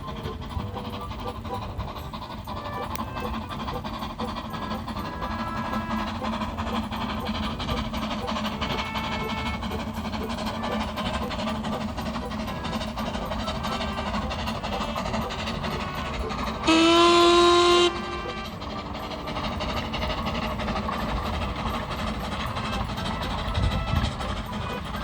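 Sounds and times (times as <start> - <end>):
steam locomotive running: 0.0 - 25.0.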